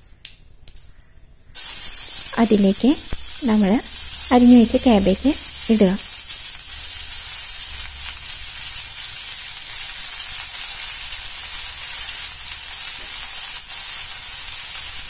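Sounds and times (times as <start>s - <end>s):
oil sizzling in a pan: 1.6s - 15.0s.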